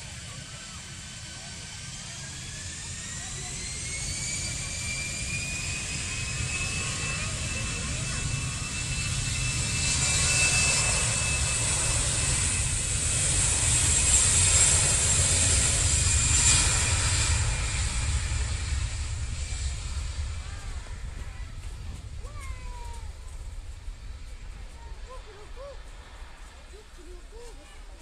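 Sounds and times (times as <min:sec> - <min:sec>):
jet engines on take-off: 0:00.0 - 0:28.0.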